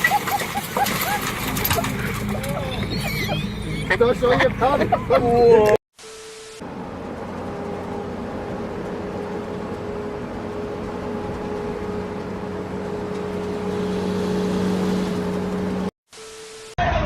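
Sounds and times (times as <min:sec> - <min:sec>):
vehicle engine hum: 0:00.0 - 0:05.8, 0:06.6 - 0:15.9.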